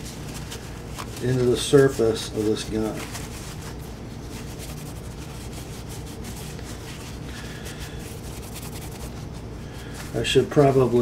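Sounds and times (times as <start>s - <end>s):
paper towel rubbing on metal: 0.0s - 11.0s.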